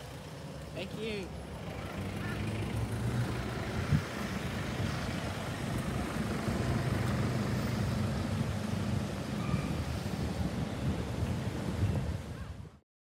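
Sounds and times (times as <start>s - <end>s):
diesel engine driving off: 0.0s - 11.9s.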